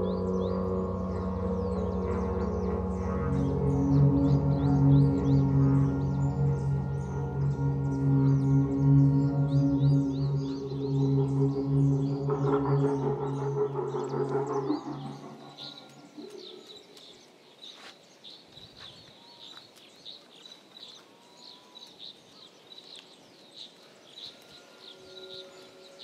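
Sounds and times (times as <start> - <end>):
faint outdoor background: 0.0 - 26.0
small birds chirping: 0.0 - 26.0.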